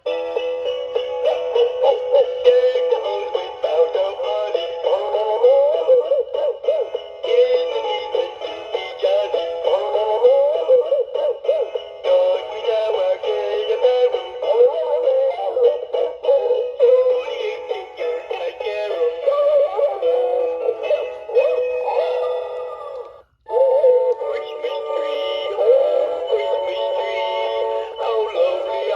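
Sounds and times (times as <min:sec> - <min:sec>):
toy singing through tinny speaker: 0:00.0 - 0:28.9.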